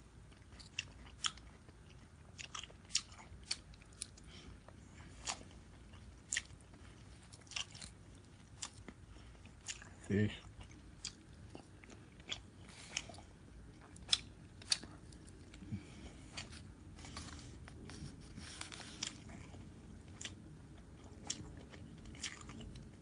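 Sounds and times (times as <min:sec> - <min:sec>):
person chewing and biting: 0:00.3 - 0:04.3, 0:05.0 - 0:18.2, 0:18.8 - 0:23.0.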